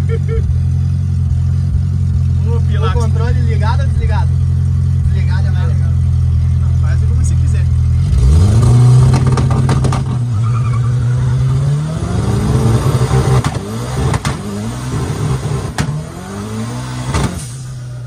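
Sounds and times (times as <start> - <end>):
turbocharged car engine revving: 0.0 - 18.0.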